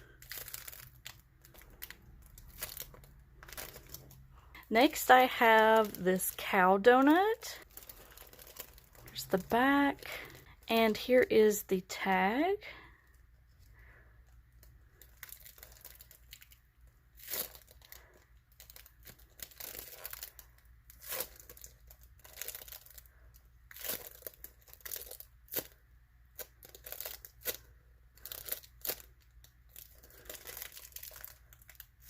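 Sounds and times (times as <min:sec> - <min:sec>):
foam squishy crinkling and snapping: 0:00.0 - 0:11.1, 0:13.0 - 0:32.0.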